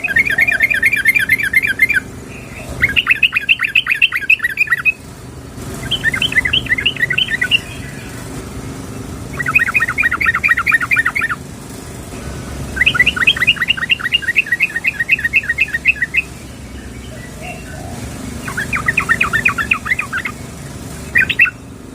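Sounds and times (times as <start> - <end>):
bulbul chattering calls: 0.0 - 5.1, 5.7 - 21.8.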